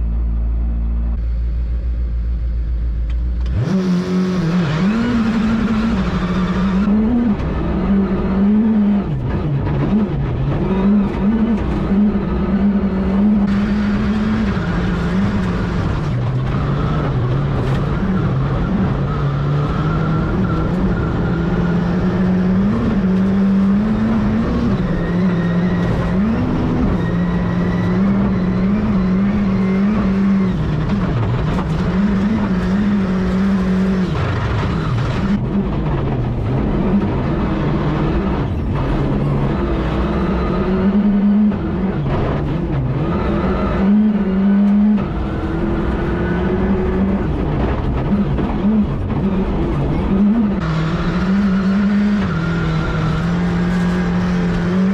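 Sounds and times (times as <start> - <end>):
rally car engine revving: 0.0 - 54.9
road and transmission noise: 0.0 - 54.9.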